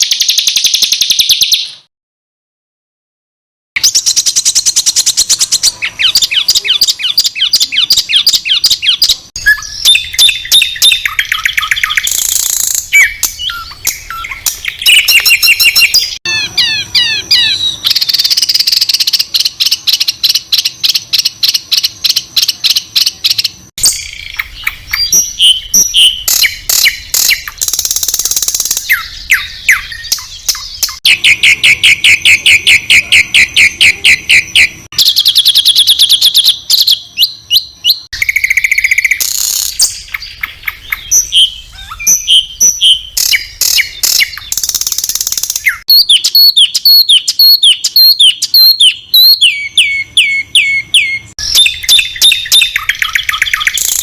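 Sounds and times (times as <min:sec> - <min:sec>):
repeated harsh bird notes: 0:00.0 - 0:01.9, 0:03.8 - 0:54.0
songbird high-pitched trills: 0:03.8 - 0:54.0.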